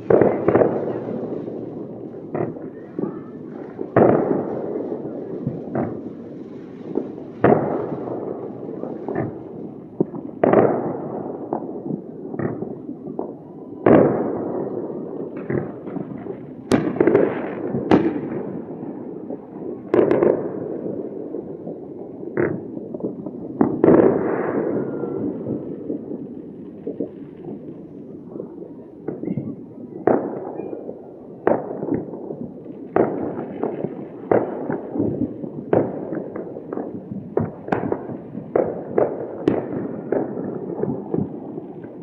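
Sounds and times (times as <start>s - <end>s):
fireworks bangs and cracks: 0.0s - 42.0s
rumble of distant explosions: 0.0s - 42.0s.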